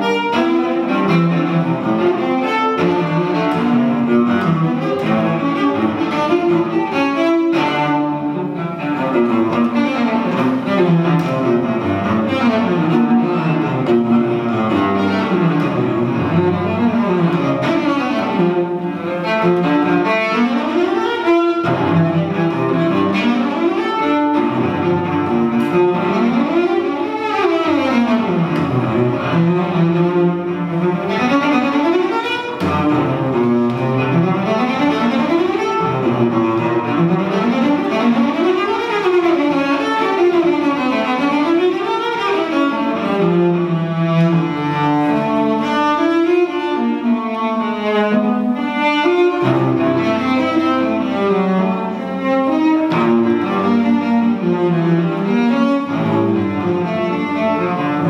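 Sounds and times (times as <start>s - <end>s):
bowed cello runs: 0.0s - 58.0s.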